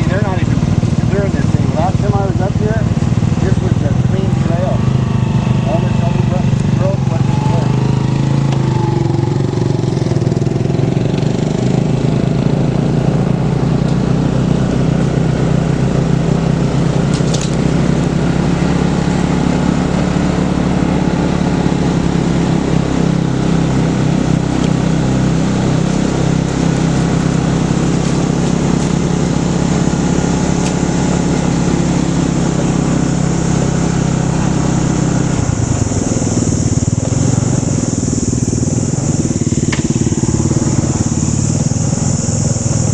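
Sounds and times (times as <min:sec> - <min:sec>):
road and wind noise: 0:00.0 - 0:42.9
vehicle engine running: 0:00.0 - 0:42.9.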